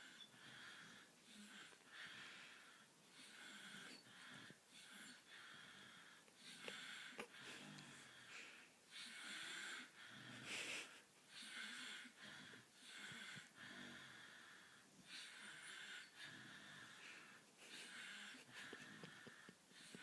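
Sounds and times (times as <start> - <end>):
rhythmic breathing: 0.0 - 20.0.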